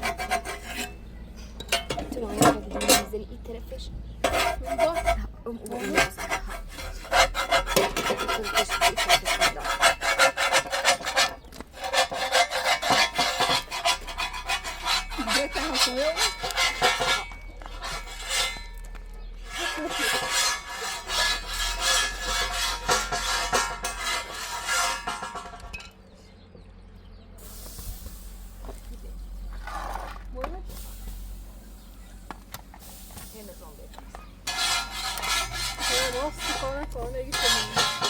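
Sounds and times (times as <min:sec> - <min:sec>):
rapid scraping strokes: 0:00.0 - 0:01.0, 0:04.2 - 0:25.8, 0:27.6 - 0:38.0.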